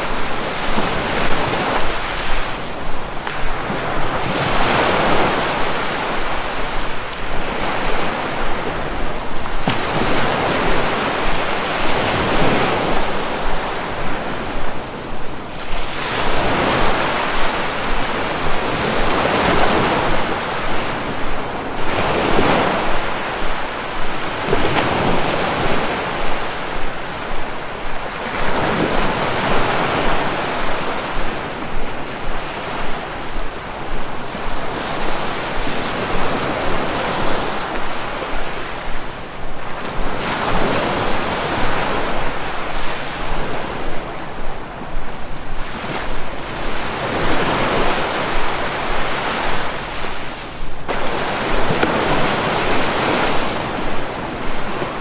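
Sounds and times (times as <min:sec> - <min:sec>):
sea waves washing: 0:00.0 - 0:55.0.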